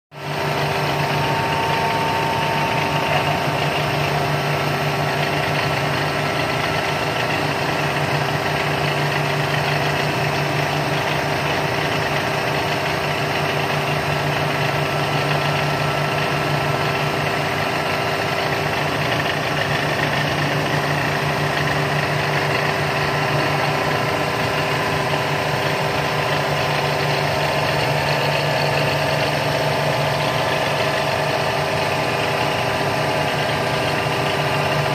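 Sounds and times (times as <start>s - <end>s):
milling machine cutting metal: 0.2s - 34.9s.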